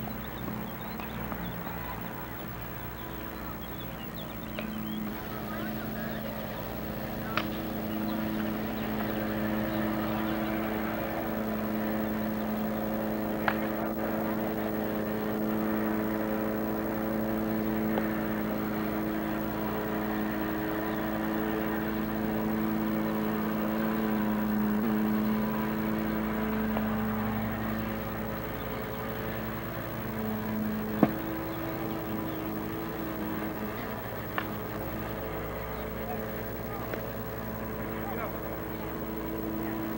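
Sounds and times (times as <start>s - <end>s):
mechanical hum: 0.0s - 39.9s
sharp crack: 4.4s - 39.4s.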